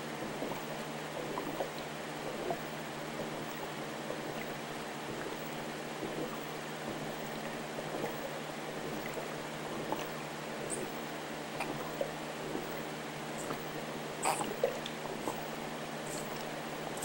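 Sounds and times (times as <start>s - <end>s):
water trickling and bubbling: 0.0s - 15.6s
low steady hum: 0.0s - 17.0s.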